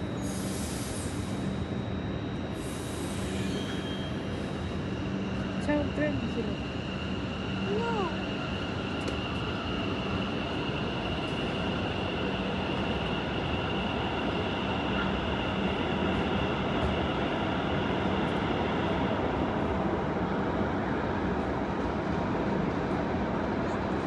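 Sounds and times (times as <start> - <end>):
train rolling on rails: 0.0 - 24.0.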